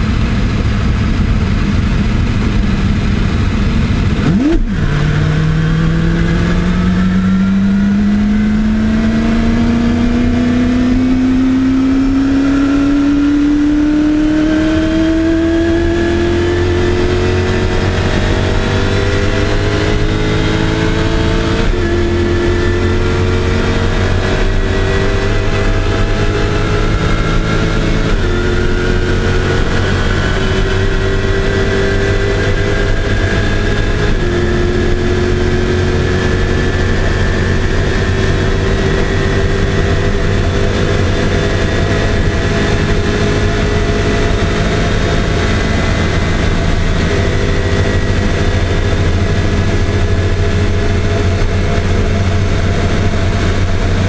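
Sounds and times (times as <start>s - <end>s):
engine at full throttle: 0.0s - 54.0s.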